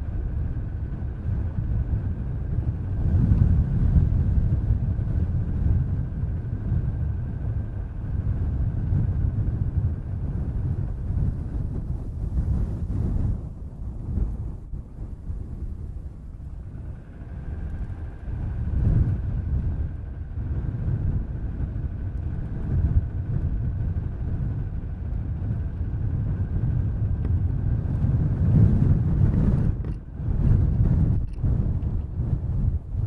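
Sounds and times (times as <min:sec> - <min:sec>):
car road and wind noise: 0:00.0 - 0:33.0
faint high whine: 0:00.0 - 0:33.0.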